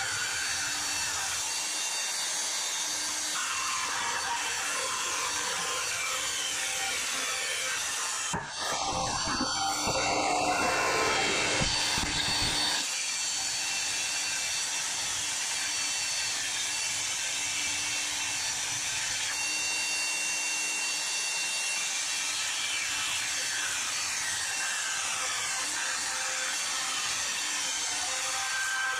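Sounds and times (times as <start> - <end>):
band saw cutting metal: 0.0 - 28.9.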